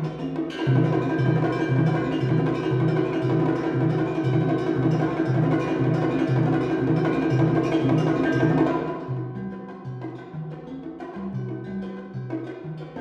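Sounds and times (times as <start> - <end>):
ringing pitched percussion: 0.0 - 13.0.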